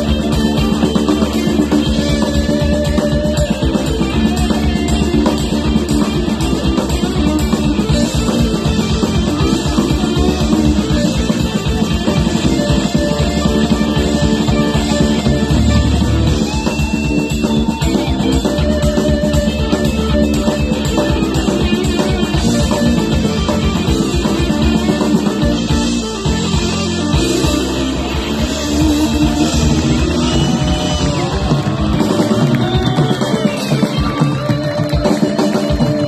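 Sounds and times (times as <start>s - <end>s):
instrumental rock band playing: 0.0s - 36.0s.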